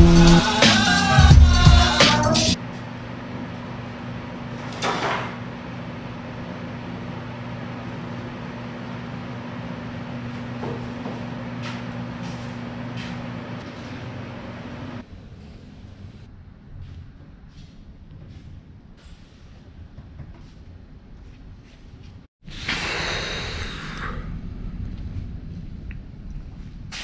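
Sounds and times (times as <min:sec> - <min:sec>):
machinery electric hum: 0:02.5 - 0:27.0.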